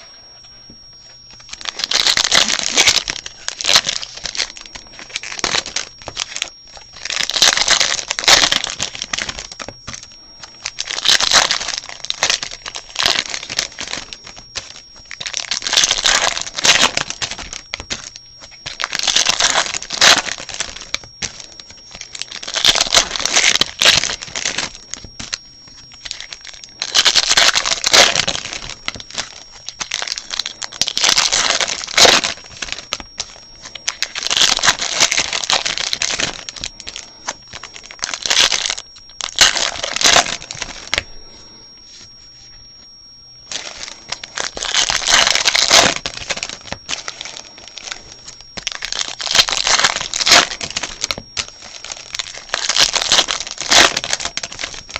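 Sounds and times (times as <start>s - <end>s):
foil wrappers crinkling and tearing: 0.0s - 41.3s, 43.5s - 54.9s.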